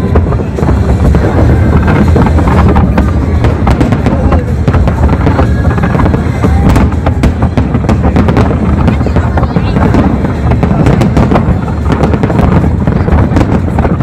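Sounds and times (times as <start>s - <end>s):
fireworks booms: 0.0s - 14.0s
fireworks cracks and crackles: 0.0s - 14.0s.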